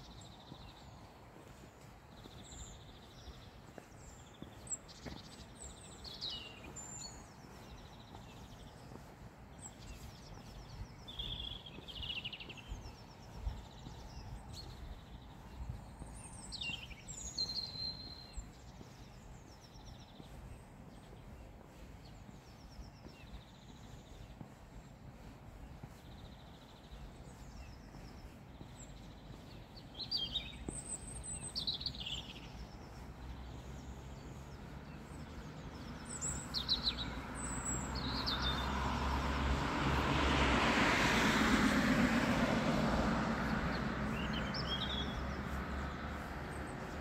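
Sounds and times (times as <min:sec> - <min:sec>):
songbirds singing and chirping: 0:00.0 - 0:47.0.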